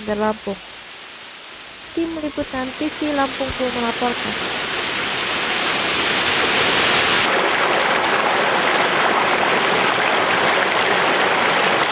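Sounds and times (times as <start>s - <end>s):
water rushing over rocks: 0.5s - 11.9s.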